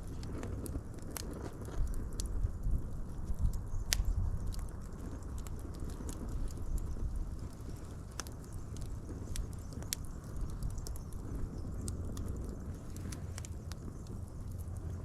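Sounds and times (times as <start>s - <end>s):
burning wood popping and crackling: 0.0s - 15.0s
low rumble of flames: 0.0s - 15.0s.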